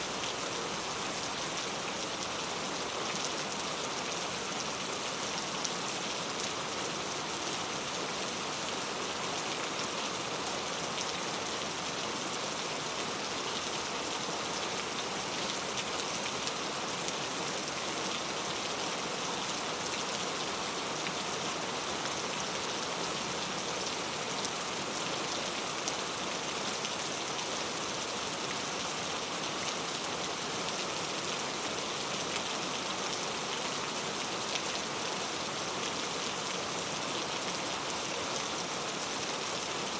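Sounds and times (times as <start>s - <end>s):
rain falling into a puddle: 0.1s - 39.9s.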